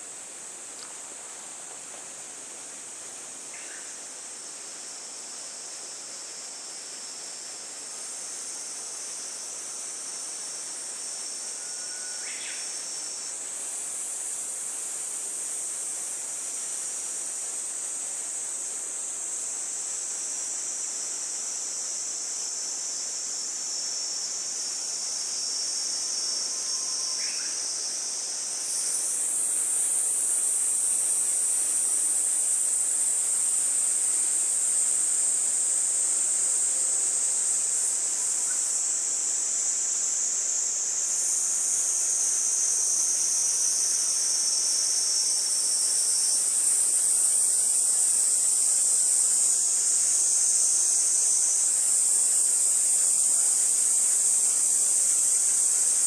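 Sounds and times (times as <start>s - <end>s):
insects buzzing trill: 0.0s - 56.0s.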